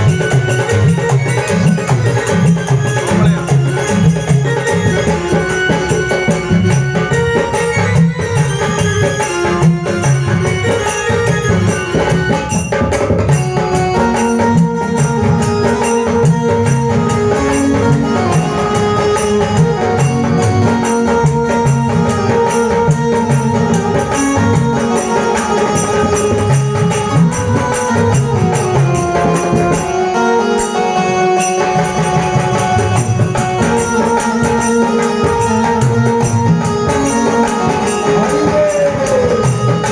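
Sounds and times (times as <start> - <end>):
held melody line: 0.0 - 39.9.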